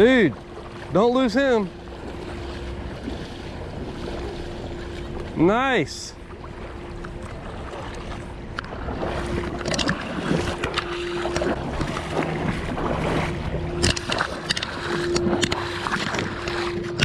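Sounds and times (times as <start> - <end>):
faint steady hum: 0.0 - 17.0
river water running: 0.0 - 17.0.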